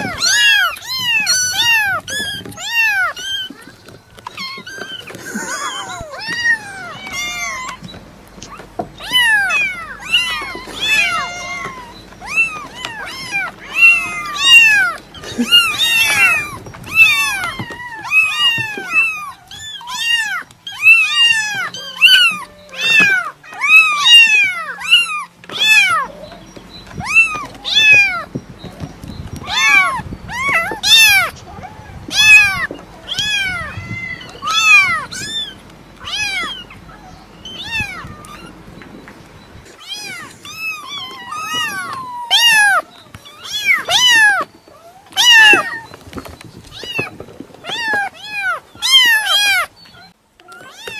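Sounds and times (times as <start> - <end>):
cats meowing: 0.0 - 50.9.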